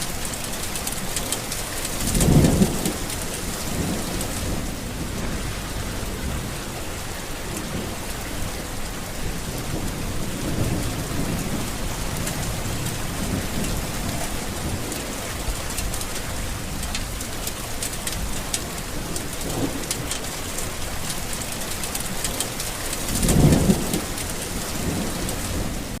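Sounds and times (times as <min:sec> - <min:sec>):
heavy rain pattering: 0:00.0 - 0:26.0
low rolling thunder: 0:00.8 - 0:26.0
thunder clap: 0:01.9 - 0:20.4, 0:23.0 - 0:26.0.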